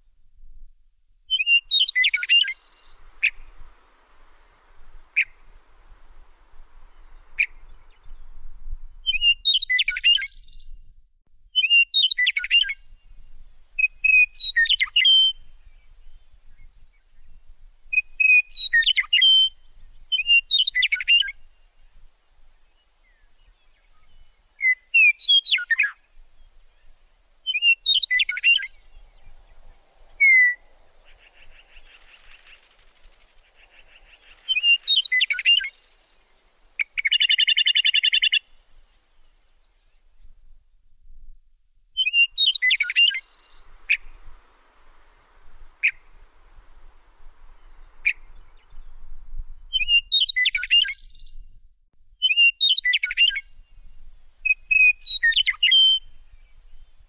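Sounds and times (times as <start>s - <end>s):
songbird chirping: 1.3s - 40.9s, 41.9s - 57.0s.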